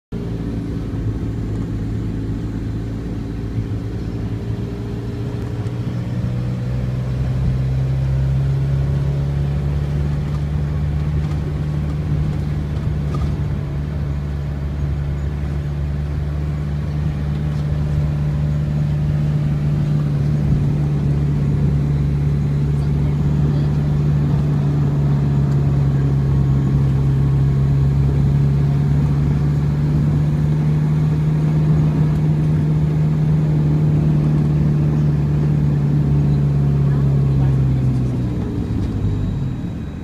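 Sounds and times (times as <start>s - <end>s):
car engine: 0.1s - 40.0s
road noise: 0.1s - 40.0s.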